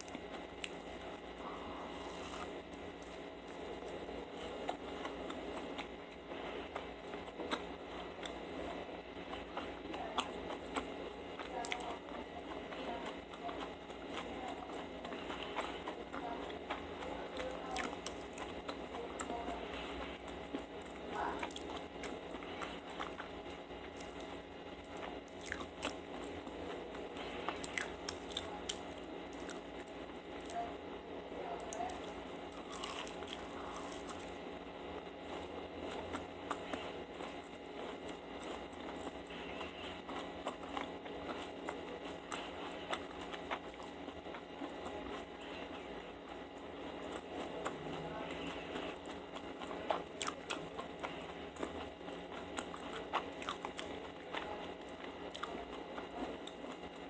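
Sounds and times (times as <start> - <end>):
person chewing: 0.0 - 30.7, 31.5 - 57.0.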